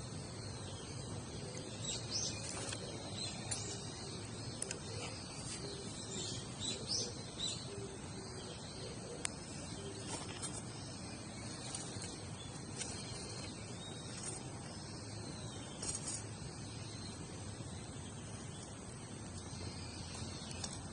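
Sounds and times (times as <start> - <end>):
outdoor hiss: 0.0 - 20.9
small birds chirping: 0.0 - 20.9.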